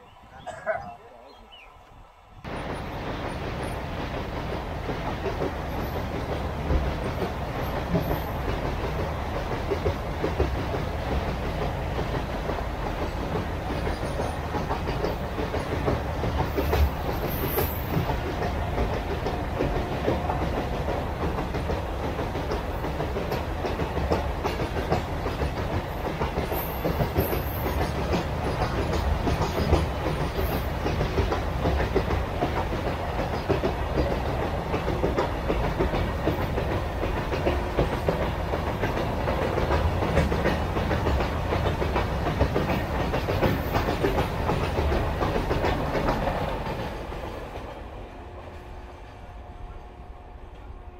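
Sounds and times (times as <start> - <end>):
freight train wagons rattling: 0.0 - 1.7, 2.4 - 50.9.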